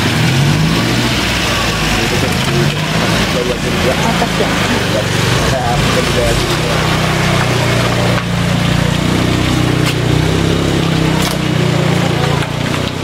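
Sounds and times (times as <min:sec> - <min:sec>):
road and wind noise: 0:00.0 - 0:13.0
vehicle engine running: 0:00.0 - 0:13.0.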